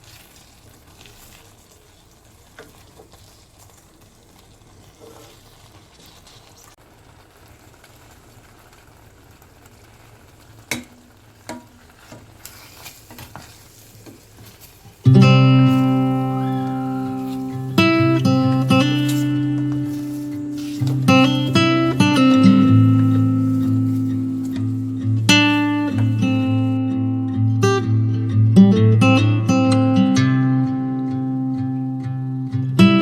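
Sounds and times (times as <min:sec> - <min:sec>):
faint crackling hiss: 0:00.0 - 0:33.0.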